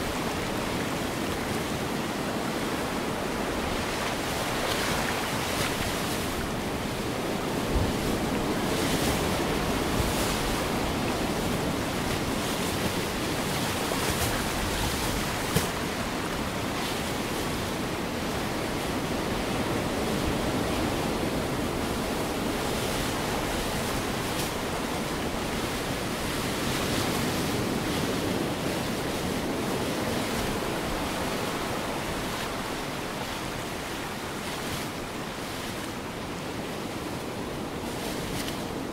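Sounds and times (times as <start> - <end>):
ocean waves washing: 0.0 - 38.9.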